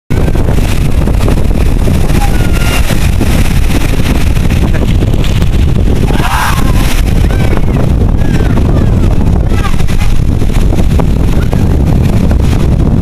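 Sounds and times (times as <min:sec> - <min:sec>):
waves breaking in surf: 0:00.1 - 0:13.0
wind buffeting microphone: 0:00.1 - 0:13.0.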